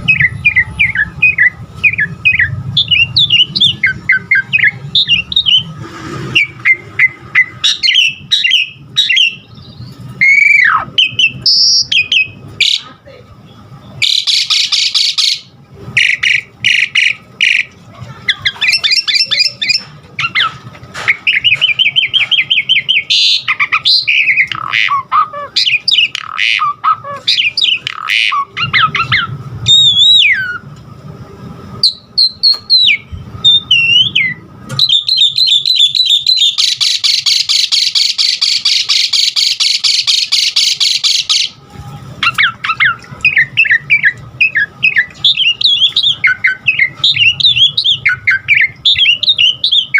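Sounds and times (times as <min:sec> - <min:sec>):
starling singing: 0:00.0 - 0:30.7, 0:31.8 - 0:41.6, 0:42.2 - 0:49.9.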